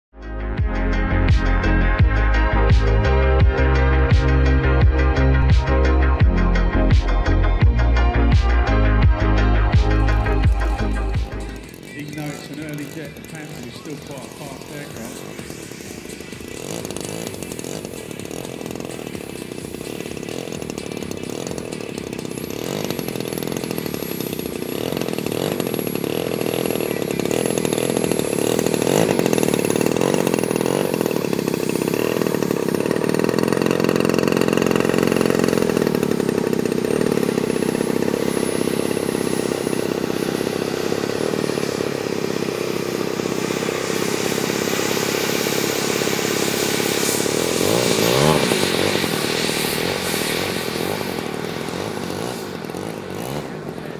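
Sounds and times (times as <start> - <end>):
model aircraft engine buzzing: 8.4 - 53.9.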